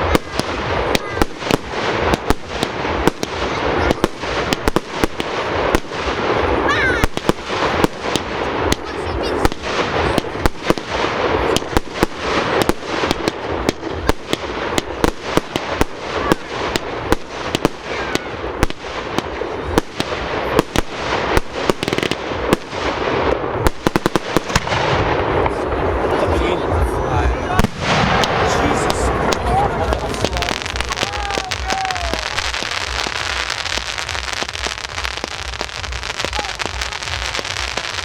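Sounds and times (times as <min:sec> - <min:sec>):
fireworks bangs: 0:00.0 - 0:38.0
fireworks crackling: 0:00.0 - 0:38.0.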